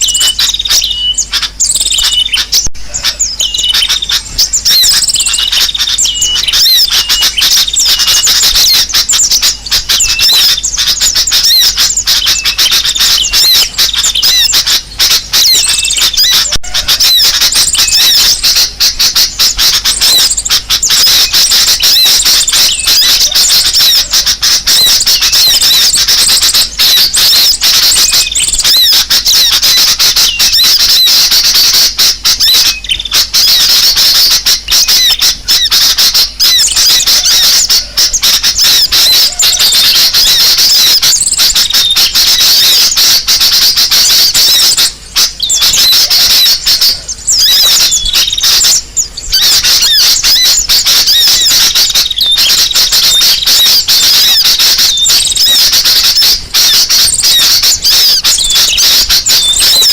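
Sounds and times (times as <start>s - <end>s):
chorus of small birds chattering: 0.0s - 59.9s.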